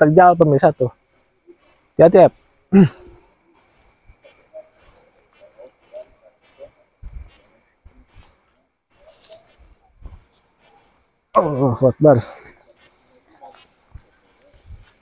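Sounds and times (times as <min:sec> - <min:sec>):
grass rustling: 0:00.0 - 0:15.0
night insects chirping: 0:00.0 - 0:15.0.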